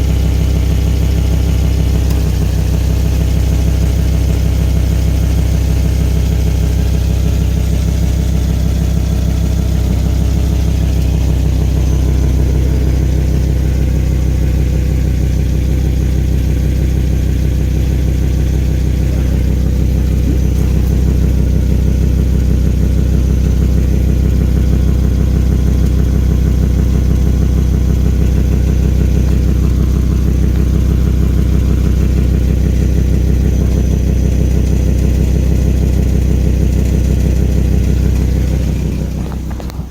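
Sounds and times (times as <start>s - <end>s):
car engine idling: 0.0s - 39.9s
exhaust leak pulsing: 0.0s - 39.9s.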